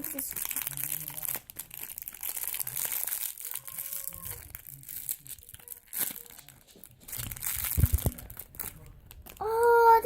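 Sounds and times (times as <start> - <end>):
plastic wrapping crinkling and tearing: 0.0 - 10.0.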